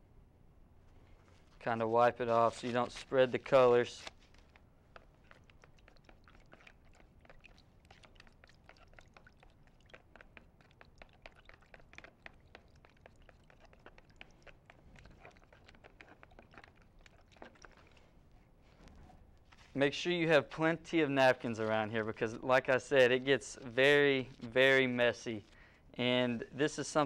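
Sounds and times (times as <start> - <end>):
spoon stirring in a plastic bowl: 1.3 - 25.6.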